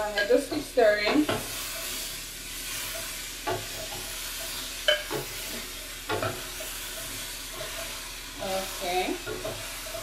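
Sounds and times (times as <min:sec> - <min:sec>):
meat and tomatoes sizzling in pan: 0:00.0 - 0:10.0.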